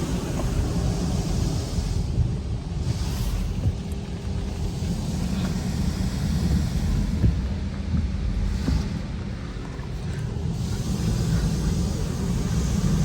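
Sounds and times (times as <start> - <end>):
car wash low rumble: 0.0 - 13.0.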